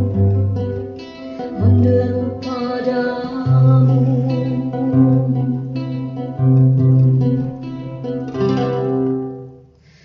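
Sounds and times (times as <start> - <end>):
plucked-string music: 0.0 - 9.8.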